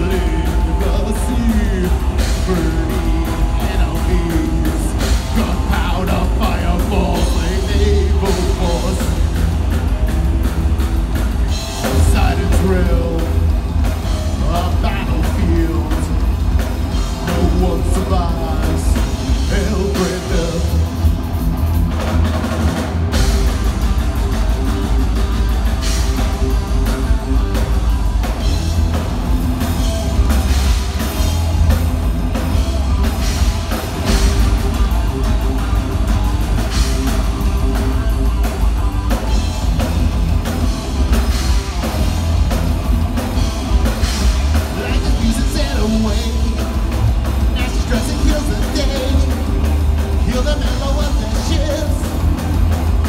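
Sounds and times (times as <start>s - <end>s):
distorted electric guitars: 0.0s - 53.0s
electric bass: 0.0s - 53.0s
pounding drum kit: 0.0s - 53.0s.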